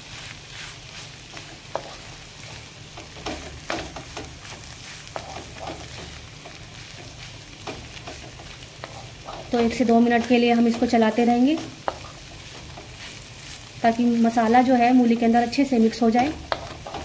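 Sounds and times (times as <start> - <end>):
spices sizzling: 0.0 - 17.0
wooden spatula scraping metal pan: 0.8 - 17.0.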